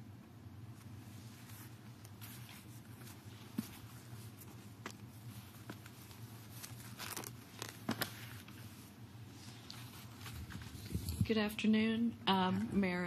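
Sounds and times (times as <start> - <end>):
low steady hum: 0.0 - 13.0
small rustles and clicks: 0.8 - 11.3.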